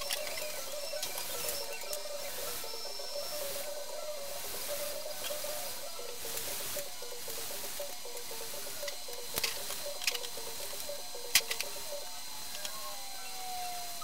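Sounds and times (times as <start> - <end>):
faint repeating melody: 0.0 - 14.0
steady hiss: 0.0 - 14.0.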